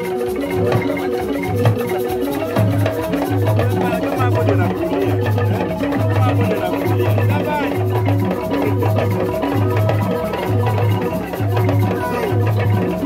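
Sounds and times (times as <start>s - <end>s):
light percussion: 0.0s - 13.0s
deep drum beat: 2.5s - 13.0s.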